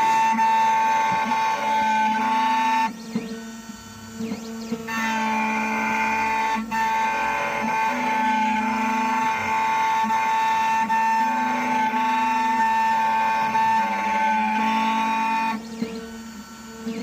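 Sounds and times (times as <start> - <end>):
key cutting machine whining: 0.0 - 17.0.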